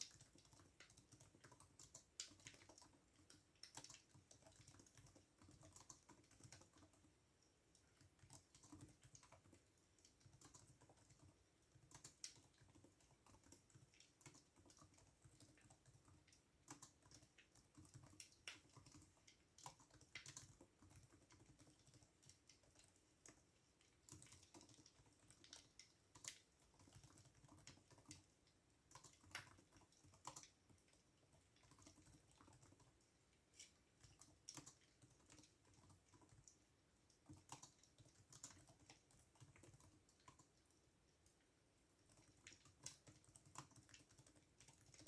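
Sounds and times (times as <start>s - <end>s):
computer keyboard typing: 0.0s - 7.1s, 7.9s - 23.4s, 24.0s - 28.3s, 28.9s - 33.1s, 34.0s - 36.6s, 37.2s - 40.8s, 42.0s - 45.0s.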